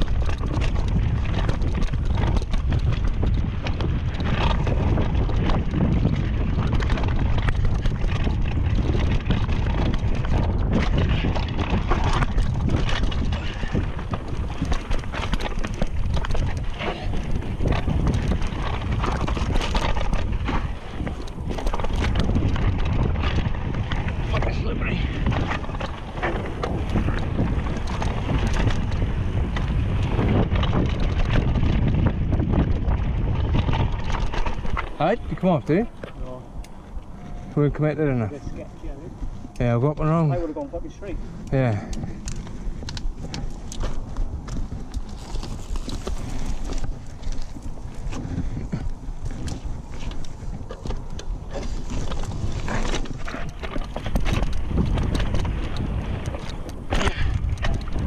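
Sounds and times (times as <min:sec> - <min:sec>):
bike knocks and rattles: 0:00.0 - 0:58.0
tyres rolling over dirt: 0:00.0 - 0:58.0
wind on microphone: 0:00.0 - 0:58.0.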